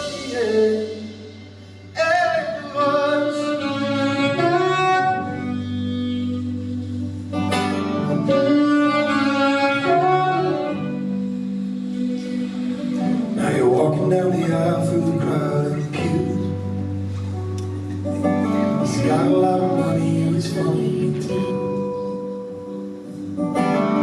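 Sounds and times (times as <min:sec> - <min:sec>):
live band music: 0:00.0 - 0:24.0
sliding lead melody: 0:00.0 - 0:24.0.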